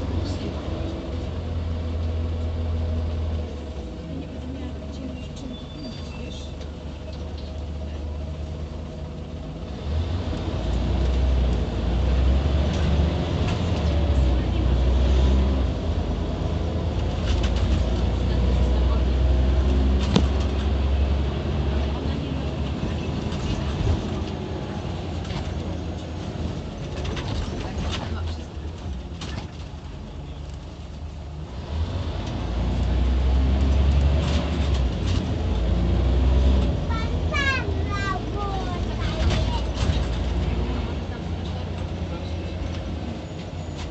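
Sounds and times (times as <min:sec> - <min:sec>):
bus engine droning: 0:00.0 - 0:43.9.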